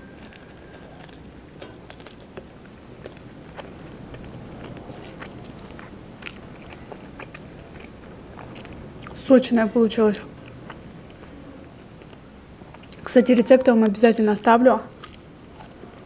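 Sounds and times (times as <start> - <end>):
person chewing food: 0.0 - 9.2, 10.2 - 13.1, 14.9 - 16.0.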